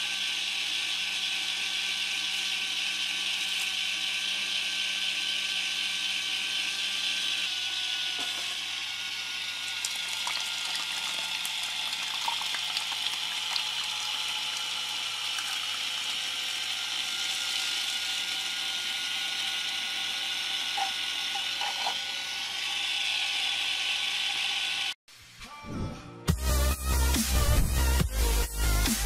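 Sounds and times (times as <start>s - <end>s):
small motor whirring: 0.0s - 25.0s.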